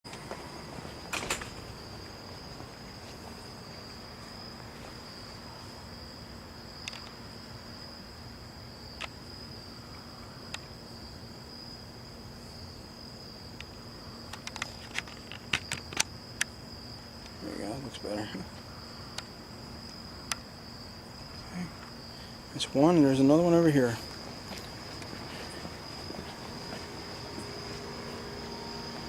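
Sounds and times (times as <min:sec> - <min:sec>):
faint low hum: 0:00.1 - 0:29.0
insects trilling: 0:00.1 - 0:29.0.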